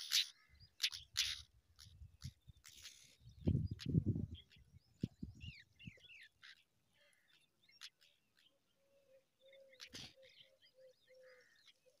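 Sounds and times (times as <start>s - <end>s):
birds chirping: 0.0s - 12.0s
low repeated bird notes: 0.0s - 12.0s.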